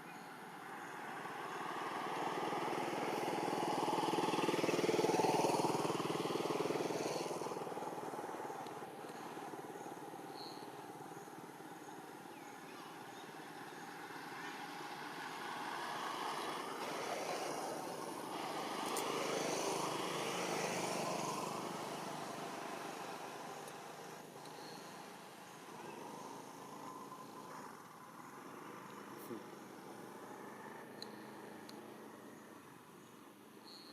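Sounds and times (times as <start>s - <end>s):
outdoor background noise: 0.0s - 33.9s
motor vehicle passing: 0.6s - 12.0s, 13.0s - 32.9s.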